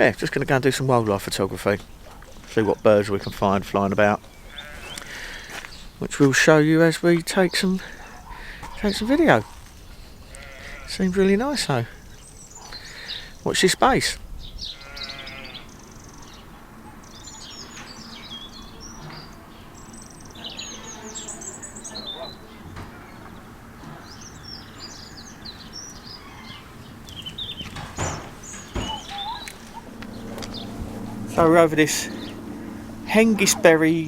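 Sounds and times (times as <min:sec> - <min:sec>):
faint outdoor background: 0:00.0 - 0:34.0
songbirds singing and chirping: 0:00.0 - 0:34.0.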